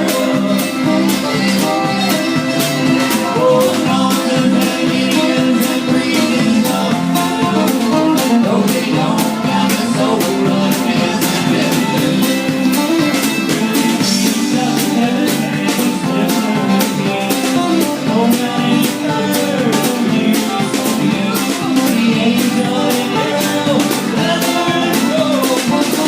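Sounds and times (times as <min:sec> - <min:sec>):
drum kit beat: 0:00.0 - 0:26.0
guitar: 0:00.0 - 0:26.0.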